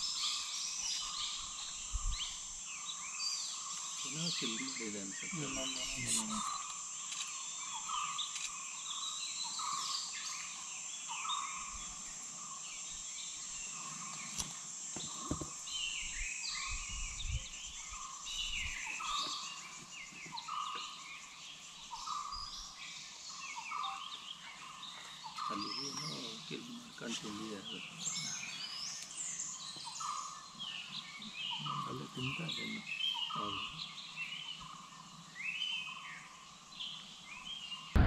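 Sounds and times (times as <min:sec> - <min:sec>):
birds chirping: 0:00.0 - 0:38.0
steady high hiss: 0:00.0 - 0:38.0.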